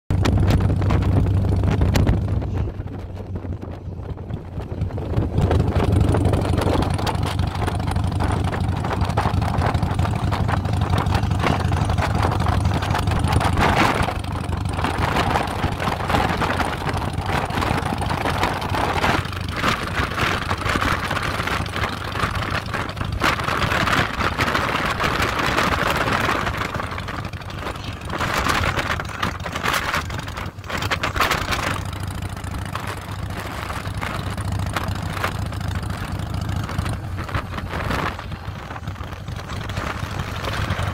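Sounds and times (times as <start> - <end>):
wind and road noise: 0.0 - 40.9
motorcycle engine humming: 0.1 - 40.9.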